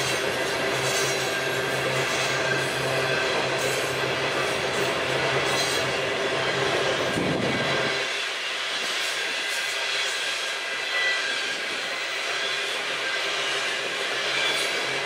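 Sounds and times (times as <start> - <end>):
low train rumble: 0.0 - 15.0
train wheels clickety-clack: 0.0 - 15.0.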